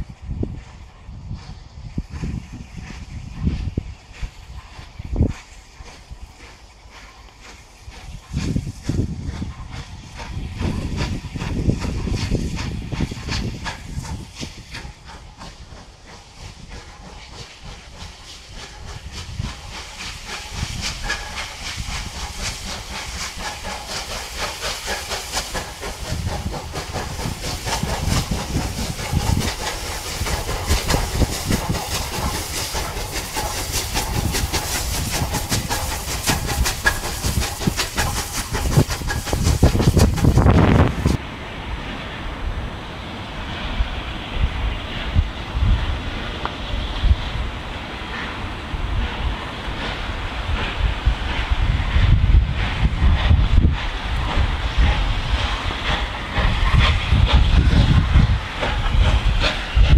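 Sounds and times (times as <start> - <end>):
steam hiss: 0.0 - 59.9
steam locomotive exhaust beat: 0.0 - 59.9
train coaches rolling by: 0.0 - 59.9.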